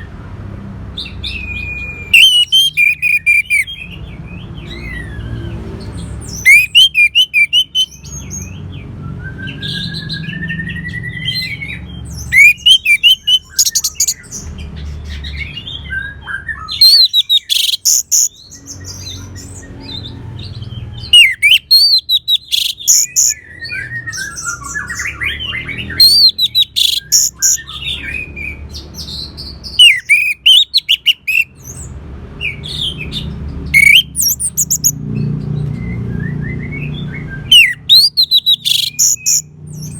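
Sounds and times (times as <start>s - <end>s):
thrush singing whistled notes: 1.0s - 14.5s, 15.2s - 19.8s, 21.0s - 31.8s, 32.4s - 39.9s.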